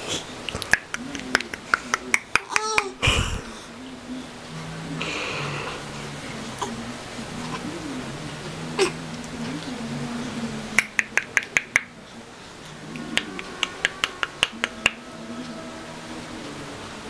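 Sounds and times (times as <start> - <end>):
faint low wavering hum: 0.2 - 11.2, 11.8 - 17.0.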